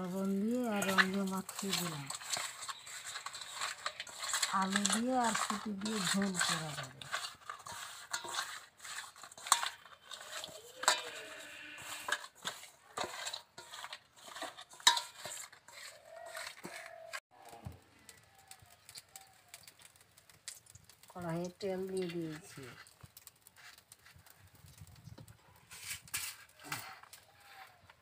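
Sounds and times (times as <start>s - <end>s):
fish mixed in metal bowl: 0.0s - 28.0s.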